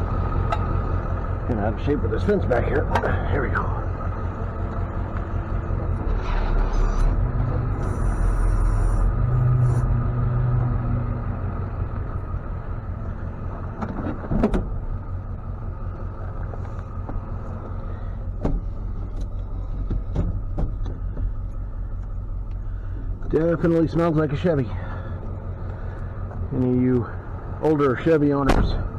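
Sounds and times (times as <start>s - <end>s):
truck engine rumbling: 0.0s - 28.9s.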